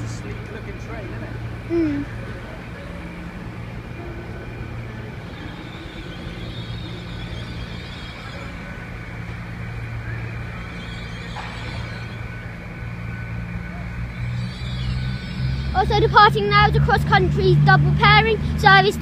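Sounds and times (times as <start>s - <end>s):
faint whine: 0.0s - 18.8s
train engines humming: 0.0s - 19.0s.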